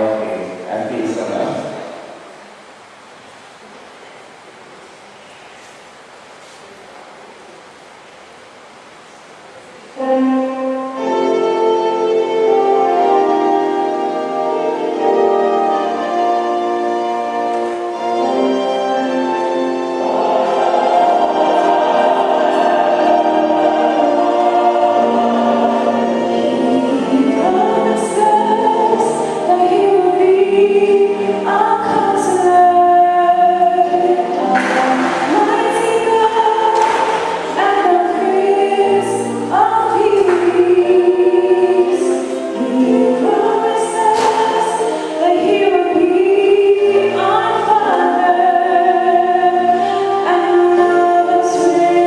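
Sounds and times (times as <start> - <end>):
choir singing a hymn: 10.0 - 52.0.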